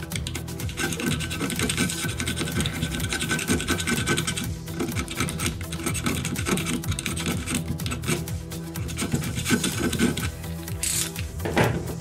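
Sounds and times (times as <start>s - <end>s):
knife blade scraping metal rim: 0.2s - 11.2s.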